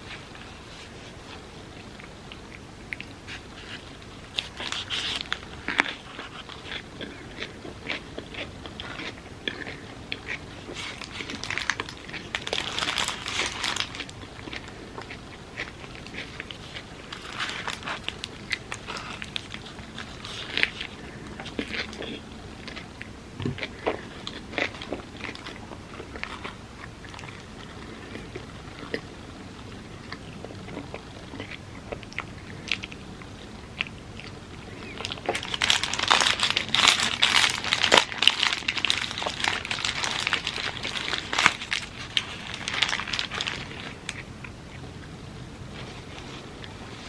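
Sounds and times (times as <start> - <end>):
loud crunching and crackling: 0.0 - 29.1, 29.8 - 44.8
chewing and mouth clicks: 1.8 - 45.1.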